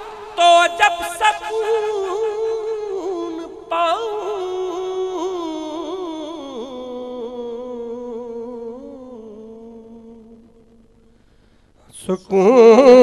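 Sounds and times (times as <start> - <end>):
man singing a long note: 0.0 - 10.9, 11.9 - 13.0.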